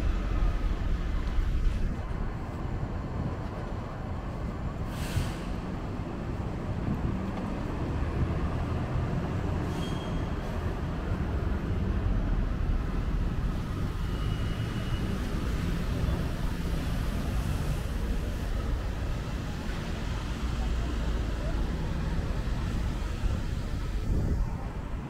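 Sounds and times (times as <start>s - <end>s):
heavy vehicle engine rumble: 0.0s - 25.0s.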